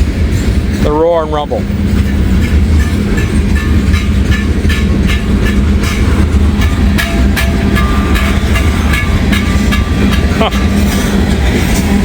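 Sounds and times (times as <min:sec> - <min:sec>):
freight train rolling past: 0:00.0 - 0:12.0
wheels clicking over rail joints: 0:00.0 - 0:12.0.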